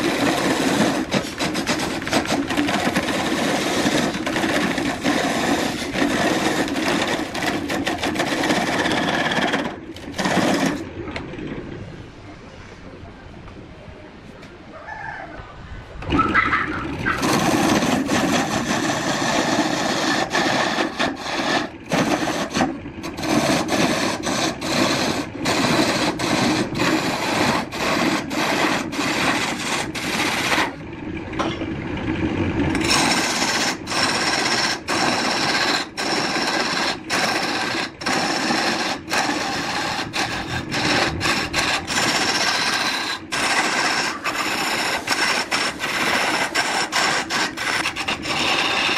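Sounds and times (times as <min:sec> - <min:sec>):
lathe tool scraping wood: 0:00.0 - 0:10.9, 0:17.0 - 0:30.8, 0:32.7 - 0:48.9.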